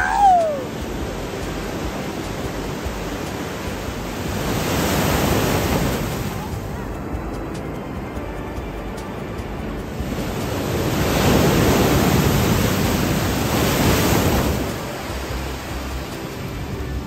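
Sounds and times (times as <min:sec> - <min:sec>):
ocean surf washing on beach: 0:00.0 - 0:17.0.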